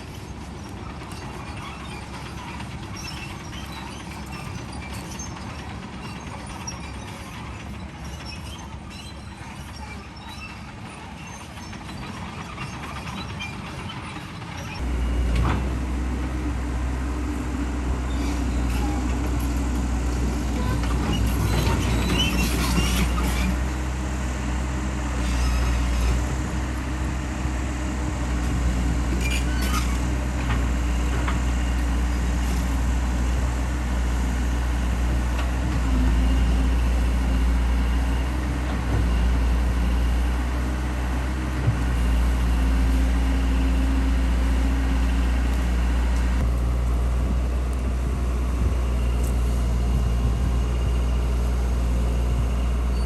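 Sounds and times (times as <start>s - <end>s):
large engine droning: 0.0s - 53.0s.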